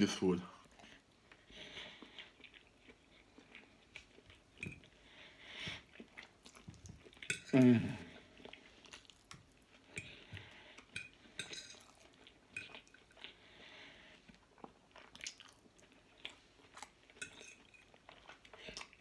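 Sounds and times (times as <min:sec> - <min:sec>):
chewing: 0:00.6 - 0:19.0.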